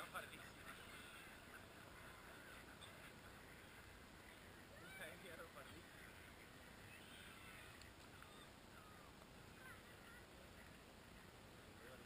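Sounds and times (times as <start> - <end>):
faint open-air hiss: 0.0 - 12.0.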